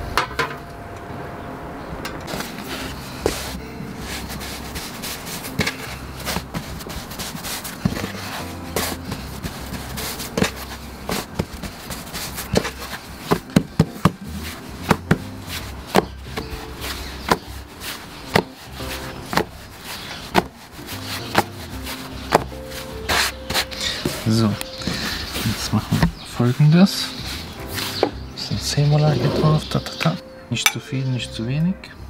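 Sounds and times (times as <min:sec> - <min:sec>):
quiet background music: 0:00.0 - 0:32.0
pizza dough slapping: 0:02.3 - 0:28.2.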